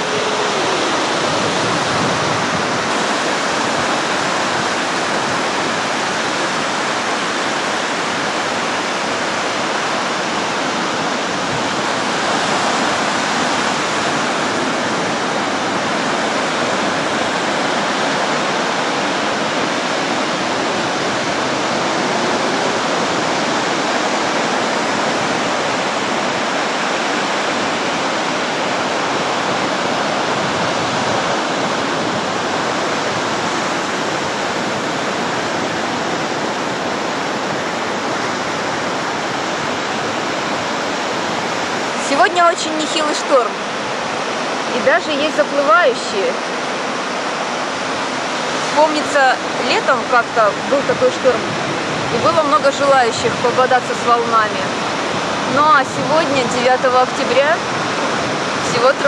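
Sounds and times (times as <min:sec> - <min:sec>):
waves breaking on beach: 0:00.0 - 0:59.0.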